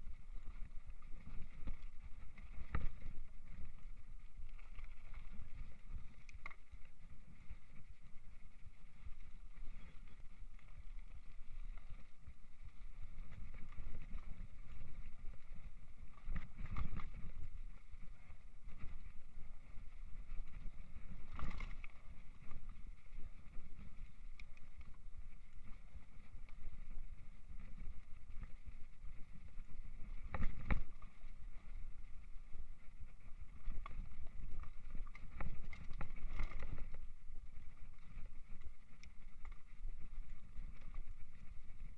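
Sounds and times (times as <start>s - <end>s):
wind on microphone: 0.0s - 41.9s.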